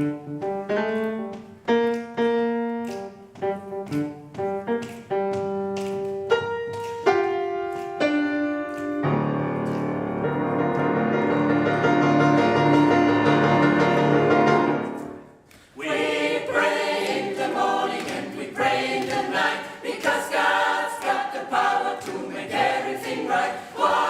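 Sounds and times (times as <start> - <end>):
gospel piano playing: 0.0 - 24.0.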